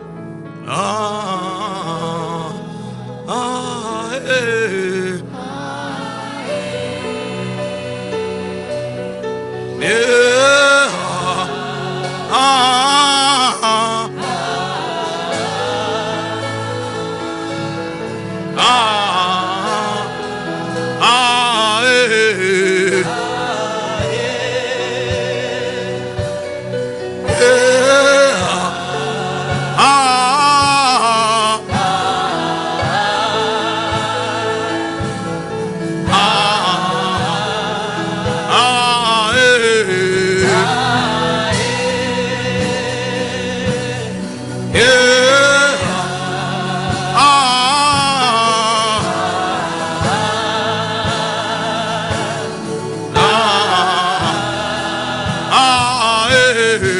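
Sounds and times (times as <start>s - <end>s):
gospel singing over held chords: 0.0s - 56.9s.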